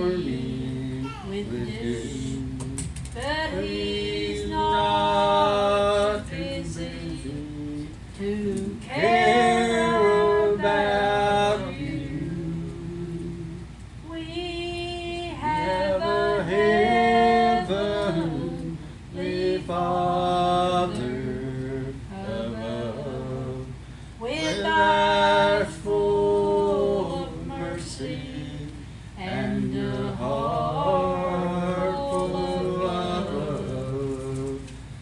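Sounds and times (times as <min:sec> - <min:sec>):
woman singing a slow hymn: 0:00.0 - 0:34.8.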